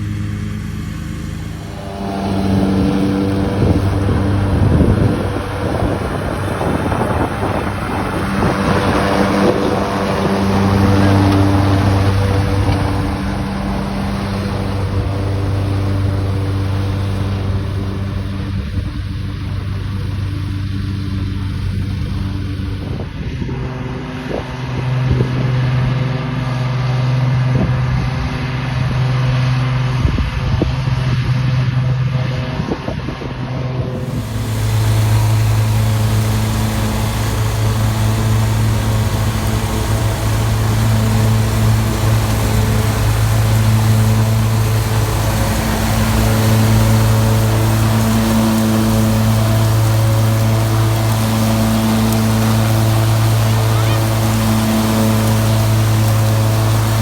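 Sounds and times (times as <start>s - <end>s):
riding lawn mower engine running: 0.0s - 32.6s, 33.7s - 57.0s
wind buffeting microphone: 1.6s - 26.2s, 29.9s - 57.0s.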